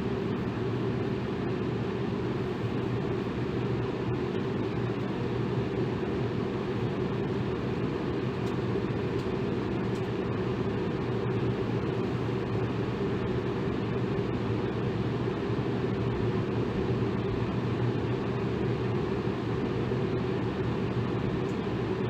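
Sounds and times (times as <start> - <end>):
electric fan whooshing: 0.0 - 22.0
faint motor hum: 0.0 - 22.0.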